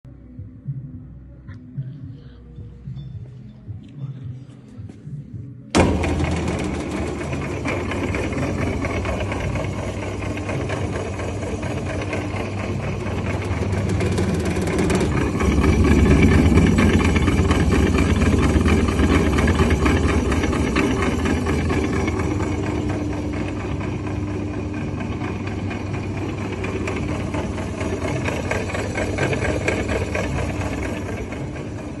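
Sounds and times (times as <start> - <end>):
meat grinder motor running: 5.8 - 32.0.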